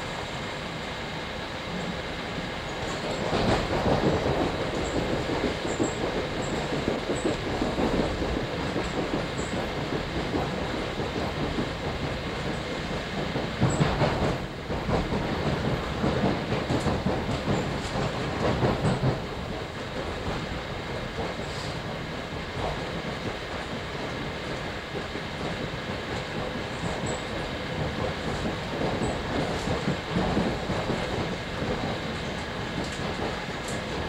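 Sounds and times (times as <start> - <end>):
train rumble inside coach: 0.0 - 34.0.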